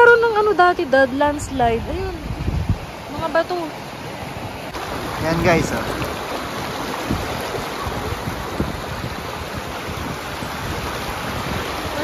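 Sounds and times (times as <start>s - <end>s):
water rushing over stones: 1.9s - 12.0s.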